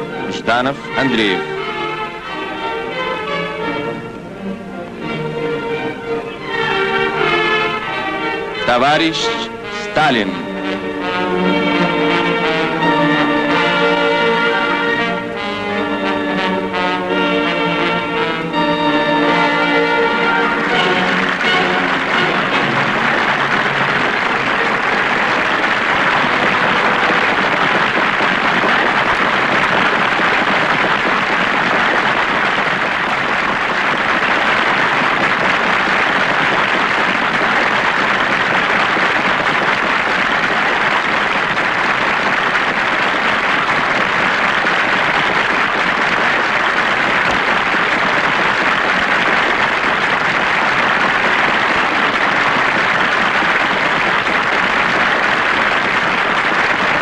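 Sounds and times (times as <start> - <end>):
large crowd applauding: 0.0 - 3.8, 5.0 - 57.0.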